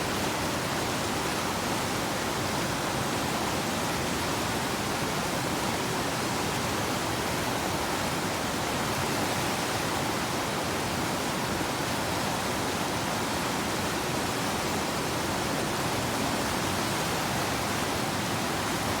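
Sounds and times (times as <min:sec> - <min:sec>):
river rapids rushing: 0:00.1 - 0:19.0.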